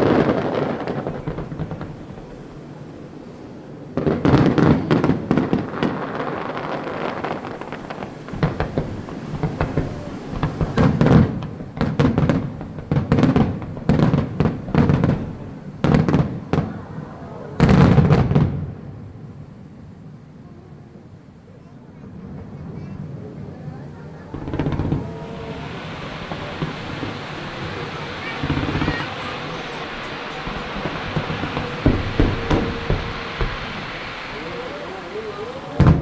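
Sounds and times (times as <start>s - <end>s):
fireworks booming and crackling: 0.0s - 20.9s, 21.6s - 36.0s.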